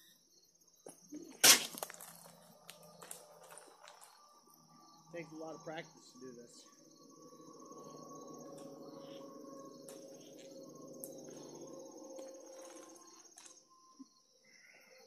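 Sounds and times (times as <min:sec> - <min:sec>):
insects trilling: 0:00.0 - 0:15.0
low hum: 0:02.1 - 0:14.9.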